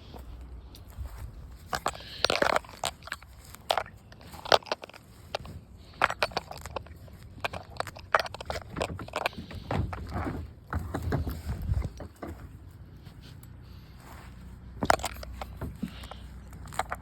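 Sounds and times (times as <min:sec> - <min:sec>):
weeds and dirt crunching and snapping: 0:00.0 - 0:17.0.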